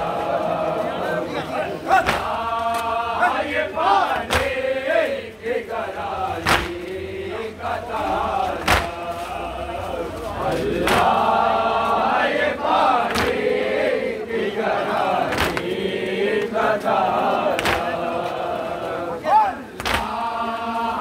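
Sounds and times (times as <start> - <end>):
crowd chanting: 0.0 - 21.0.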